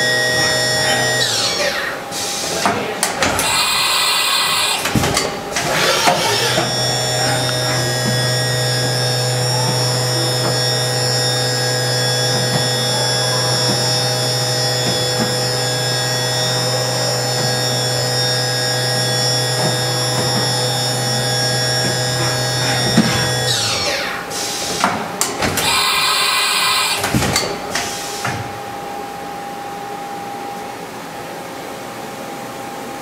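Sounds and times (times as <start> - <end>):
machine spindle whine: 0.0 - 31.3.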